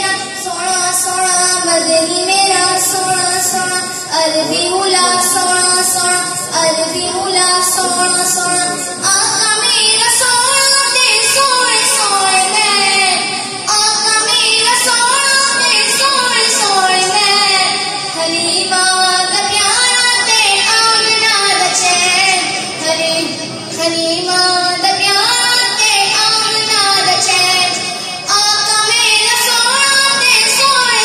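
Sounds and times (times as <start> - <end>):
boy singing unaccompanied: 0.0 - 31.0.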